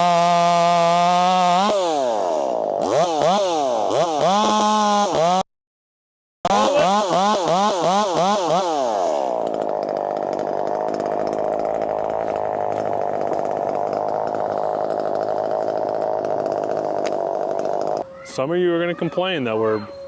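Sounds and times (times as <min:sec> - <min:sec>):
chainsaw cutting and idling: 0:00.0 - 0:05.5, 0:06.5 - 0:18.0.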